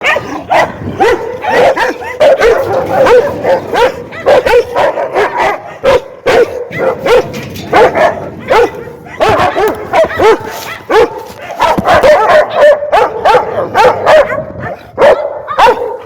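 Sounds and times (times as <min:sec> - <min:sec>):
dog barking angrily: 0:00.0 - 0:16.0.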